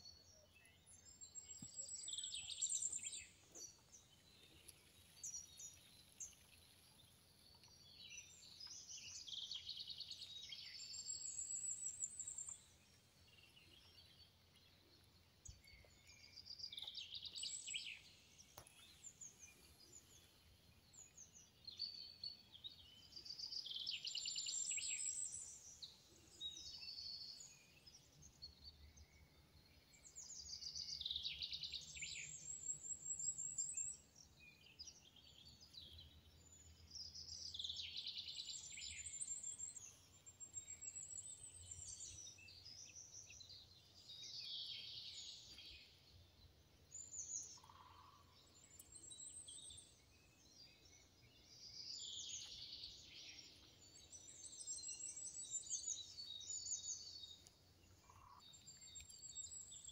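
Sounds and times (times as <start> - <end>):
songbirds trilling: 0.0 - 59.9.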